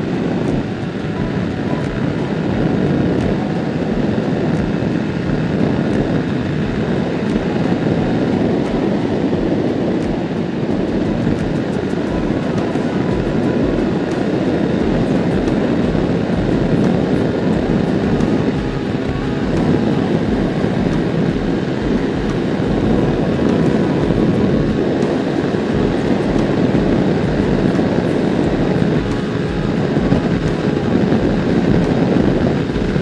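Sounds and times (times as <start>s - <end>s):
motorcycle engine running: 0.0s - 33.0s
road noise: 0.0s - 33.0s
rush of wind: 0.0s - 33.0s.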